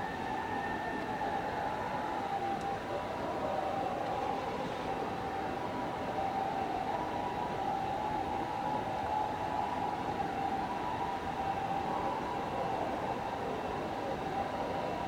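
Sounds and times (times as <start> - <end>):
distant emergency siren: 0.0 - 15.0.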